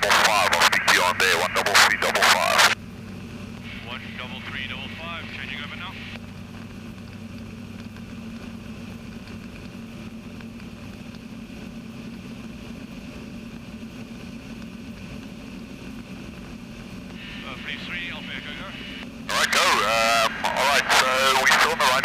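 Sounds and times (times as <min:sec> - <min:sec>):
aircraft engine and propeller drone: 0:00.0 - 0:22.0.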